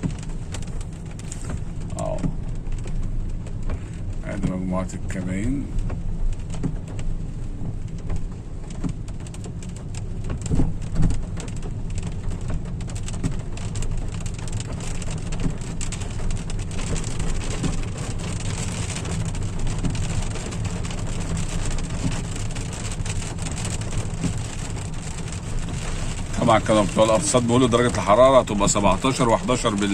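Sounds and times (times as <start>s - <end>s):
car rumble: 0.0s - 29.9s
rain tapping on a car: 0.0s - 29.9s.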